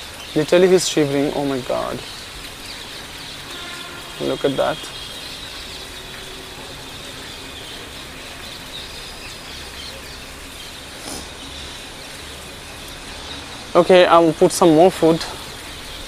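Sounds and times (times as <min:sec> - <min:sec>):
birds chirping: 0:00.0 - 0:16.0
rain and running water: 0:00.0 - 0:16.0.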